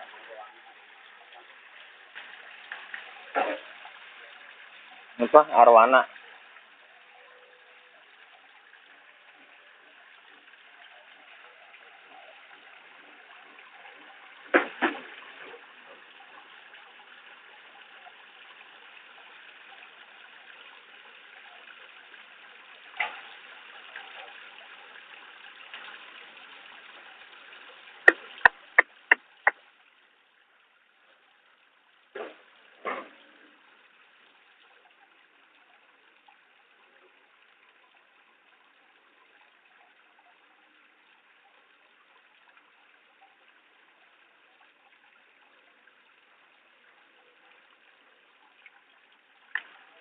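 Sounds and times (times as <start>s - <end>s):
water splashing: 0.0s - 29.8s, 32.1s - 50.0s.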